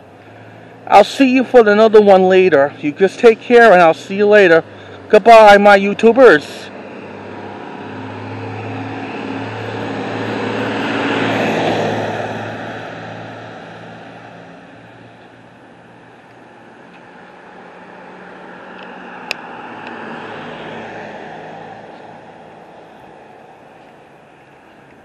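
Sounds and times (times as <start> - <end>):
heavy truck passing: 0.0 - 25.0.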